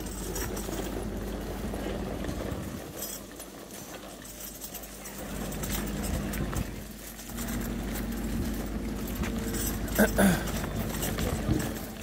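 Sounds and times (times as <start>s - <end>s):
low steady rumble: 0.0s - 12.0s
faint clinks: 2.2s - 12.0s.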